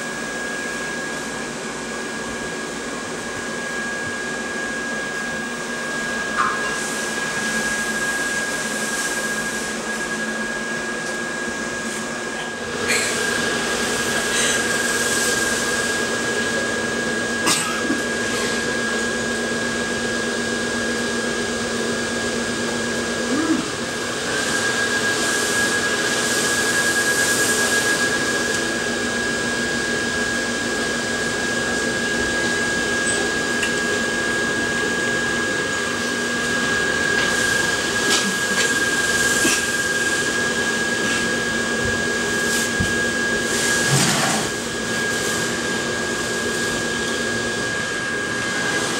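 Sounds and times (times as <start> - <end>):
blower fan whirring: 0.0 - 48.9
high steady whine: 0.0 - 48.9.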